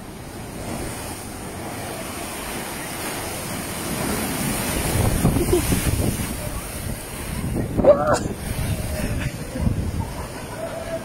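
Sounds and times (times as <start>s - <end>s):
rush of surf: 0.0s - 11.0s
wave crashing: 0.0s - 11.0s.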